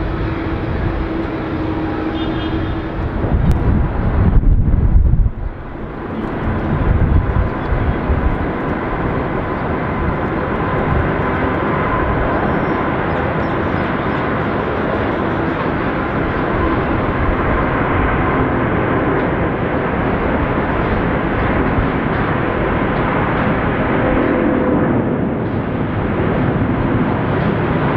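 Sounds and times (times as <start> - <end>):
jet engines roaring on takeoff: 0.0 - 27.9.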